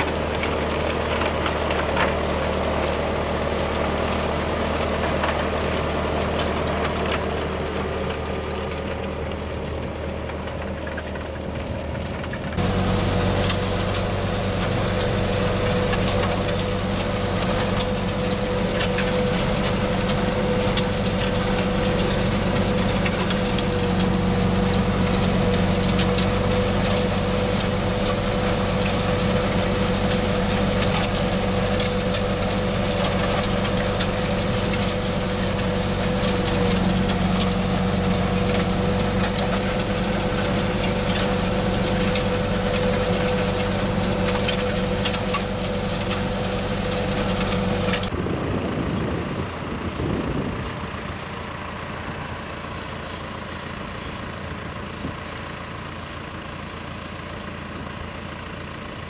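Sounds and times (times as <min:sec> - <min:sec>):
tractor engine from inside cab: 0:00.0 - 0:59.0.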